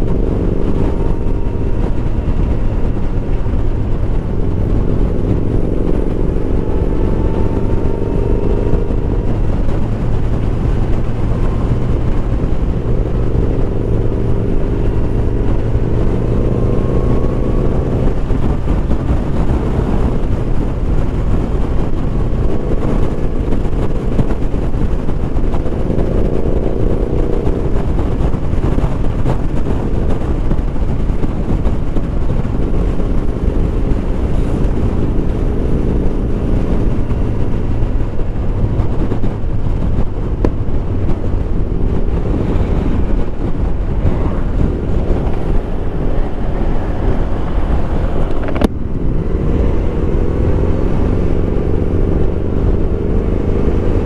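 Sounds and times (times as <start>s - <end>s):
heavy wind noise: 0.0s - 54.0s
motorcycle engine at speed: 0.0s - 54.0s.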